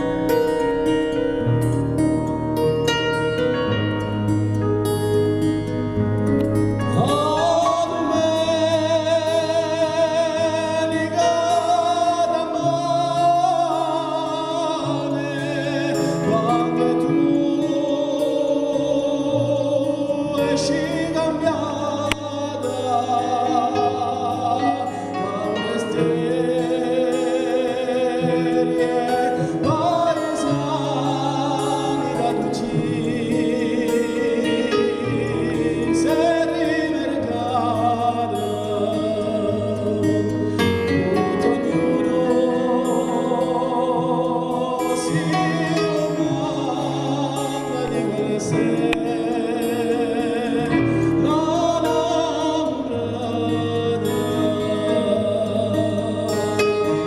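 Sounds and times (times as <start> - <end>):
man singing: 0.0 - 2.0, 3.1 - 57.0
acoustic guitar: 0.0 - 57.0.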